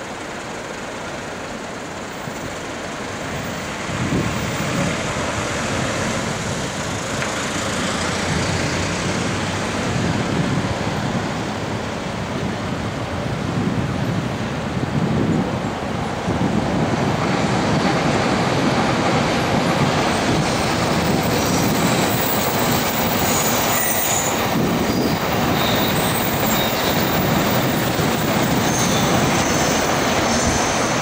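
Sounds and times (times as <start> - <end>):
city traffic hum: 0.0 - 31.0.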